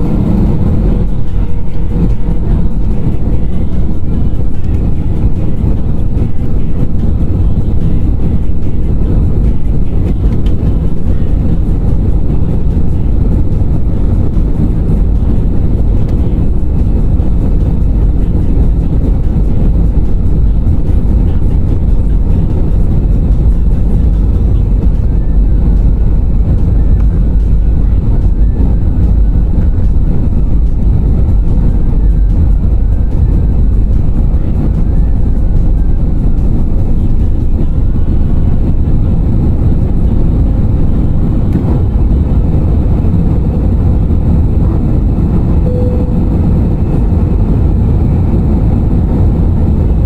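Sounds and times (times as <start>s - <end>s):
jet engine cabin rumble: 0.0s - 50.0s.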